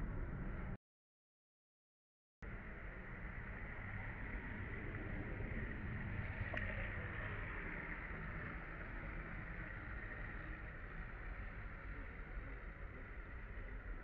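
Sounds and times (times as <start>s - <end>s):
low rumble with hiss: 0.0s - 0.8s, 2.4s - 14.0s.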